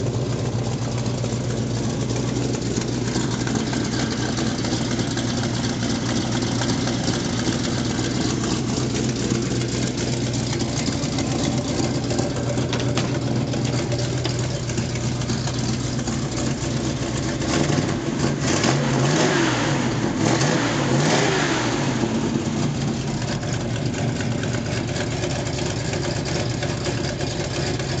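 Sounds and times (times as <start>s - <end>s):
engine idling and revving: 0.0s - 28.0s.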